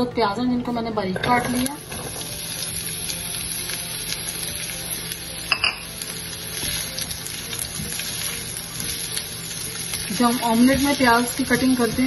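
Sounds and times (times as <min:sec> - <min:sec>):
onions sizzling in a frying pan: 0:01.3 - 0:12.0.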